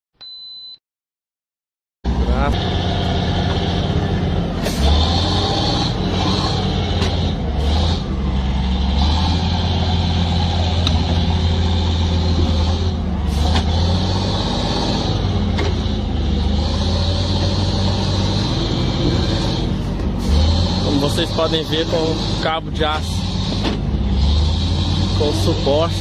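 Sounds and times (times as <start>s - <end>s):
heavy vehicle engine running: 2.1s - 26.0s.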